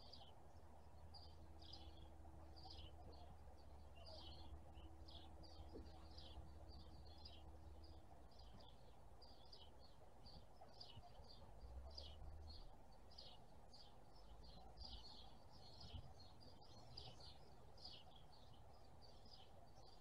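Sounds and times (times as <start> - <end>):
faint steady low hum: 0.0 - 20.0
small birds chirping: 0.0 - 20.0.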